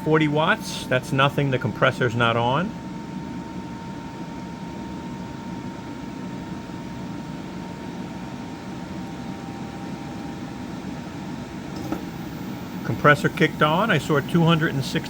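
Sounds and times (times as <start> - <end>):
air conditioner fan rushing: 0.0 - 15.0.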